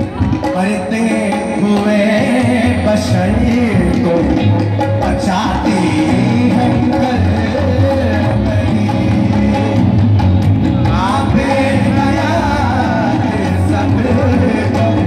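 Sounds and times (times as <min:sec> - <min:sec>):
person singing: 0:00.0 - 0:10.1, 0:10.8 - 0:15.0
amplified band playing: 0:00.0 - 0:15.0.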